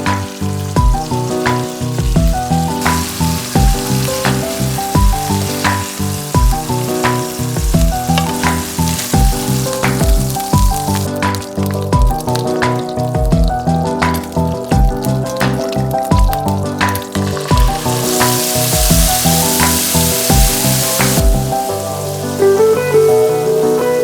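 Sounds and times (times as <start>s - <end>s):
food sizzling in a pan: 0.0s - 24.0s
music with steady beat: 0.0s - 24.0s.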